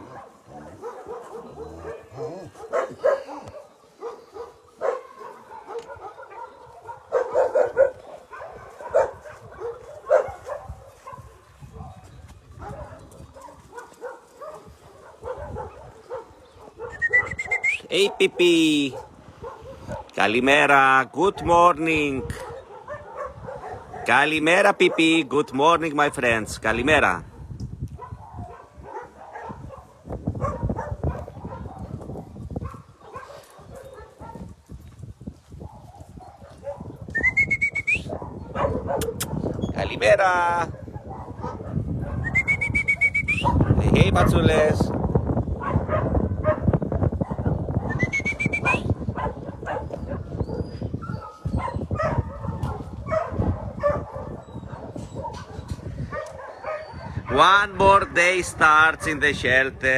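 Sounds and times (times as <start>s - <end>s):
dogs barking and yelping: 0.0s - 20.2s, 22.1s - 25.2s, 27.3s - 34.7s, 35.5s - 39.7s, 40.6s - 44.6s, 45.5s - 58.2s.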